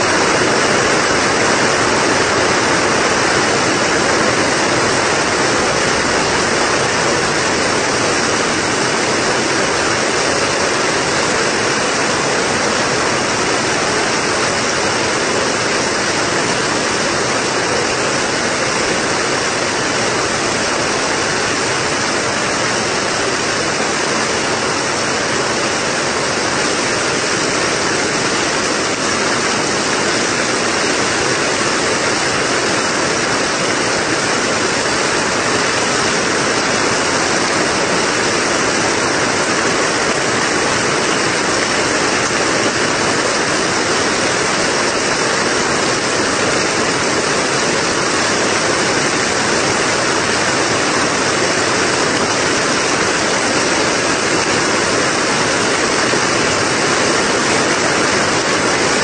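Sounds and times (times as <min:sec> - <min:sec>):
heavy rain on tent fabric: 0:00.0 - 0:59.0.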